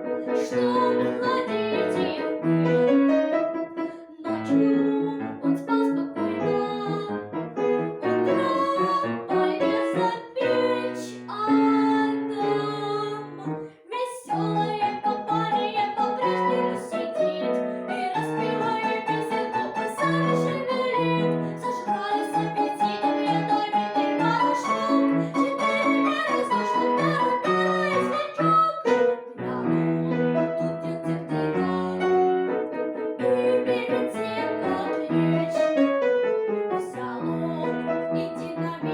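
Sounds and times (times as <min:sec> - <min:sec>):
piano melody over chords: 0:00.0 - 0:13.7, 0:14.3 - 0:38.9.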